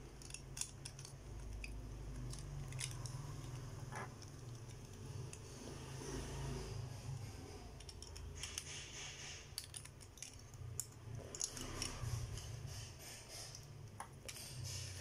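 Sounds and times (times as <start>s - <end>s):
small plastic parts clicking: 0.0s - 5.6s, 7.8s - 15.0s.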